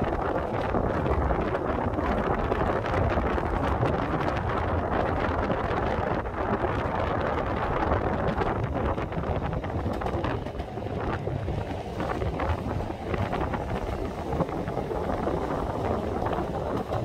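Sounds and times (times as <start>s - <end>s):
tram clicks: 0.0s - 17.0s
tram running rumble: 0.0s - 17.0s
wind buffeting microphone: 0.0s - 17.0s.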